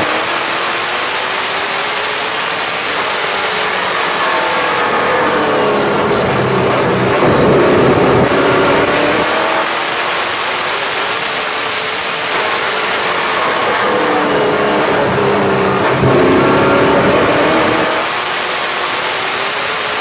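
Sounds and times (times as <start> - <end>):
loud rush: 0.0 - 19.0
race car engine revving: 0.0 - 20.0.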